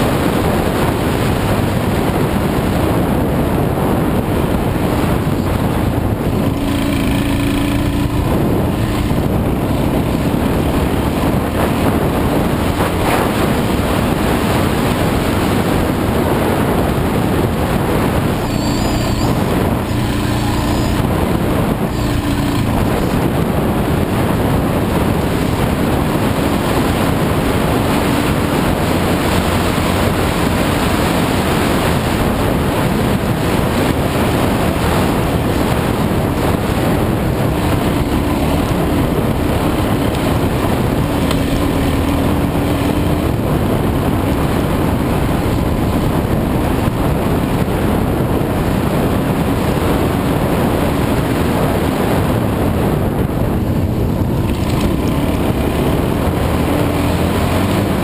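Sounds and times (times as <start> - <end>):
dirt bike engine running: 0.0 - 58.0
wind noise on microphone: 0.0 - 58.0.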